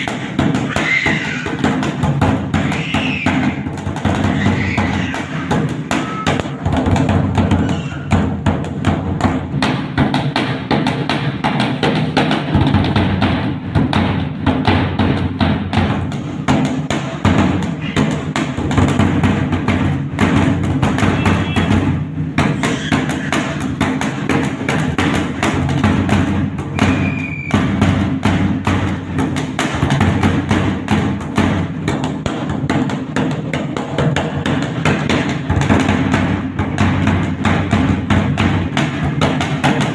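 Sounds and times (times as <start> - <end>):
barrel drum played with sticks: 0.0 - 39.9.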